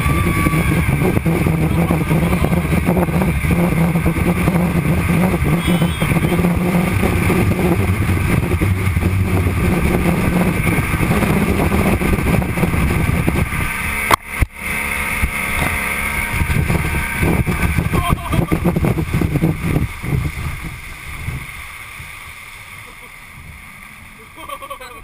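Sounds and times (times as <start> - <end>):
motorboat engine running: 0.0 - 25.0
water and wind noise: 0.0 - 25.0.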